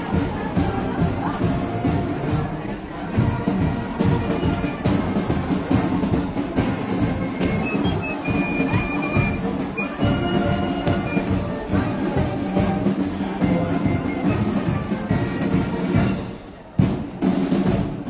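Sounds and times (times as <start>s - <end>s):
marching band playing: 0.0s - 18.0s.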